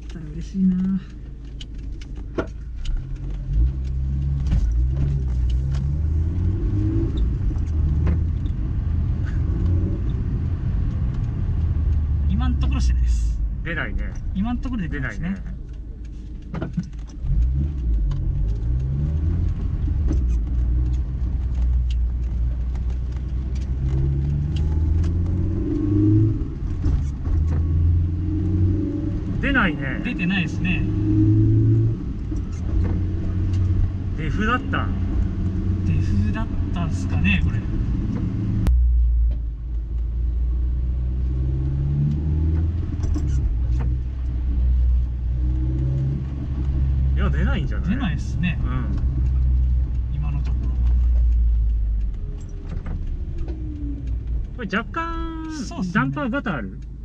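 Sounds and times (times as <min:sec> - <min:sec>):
car engine accelerating in cabin: 0:00.0 - 0:57.0.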